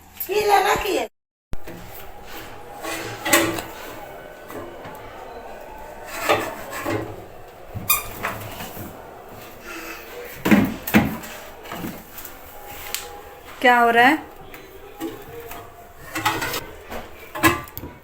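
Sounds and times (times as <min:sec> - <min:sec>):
knocks: 0:01.6 - 0:17.8
fridge door and drawers clunking: 0:01.6 - 0:18.0.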